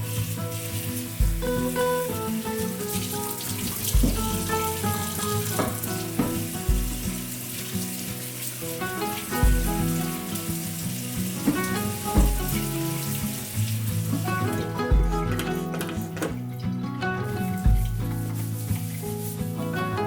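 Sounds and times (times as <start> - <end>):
soft background music: 0.0 - 20.0
water running from a tap: 0.0 - 20.0.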